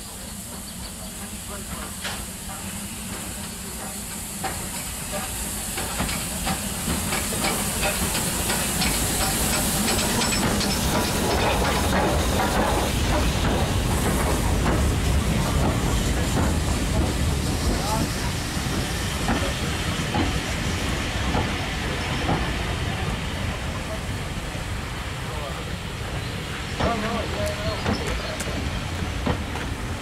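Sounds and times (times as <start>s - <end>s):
steam hissing: 0.0s - 30.0s
train wheels rumbling: 0.0s - 30.0s.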